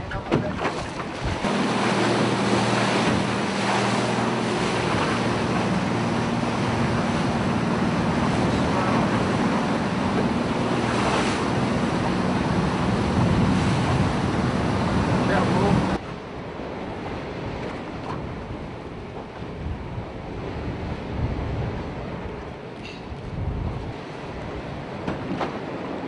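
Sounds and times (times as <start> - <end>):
motorboat engine running: 0.0 - 26.0
water rushing and waves: 0.0 - 26.0
wind buffeting microphone: 0.0 - 26.0.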